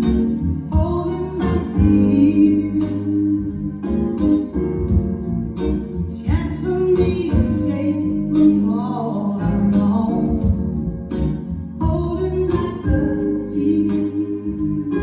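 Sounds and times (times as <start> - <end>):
heavy bass beat: 0.0 - 15.0
song with singing and guitar: 0.0 - 15.0.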